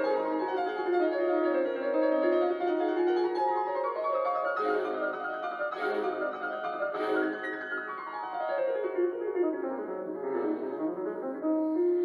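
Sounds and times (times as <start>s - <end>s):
soft piano background music: 0.0s - 12.0s.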